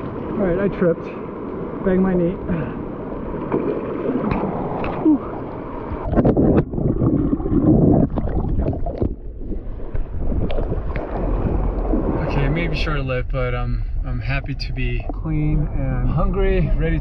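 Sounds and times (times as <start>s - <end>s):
water splashing and churning: 0.0s - 17.0s.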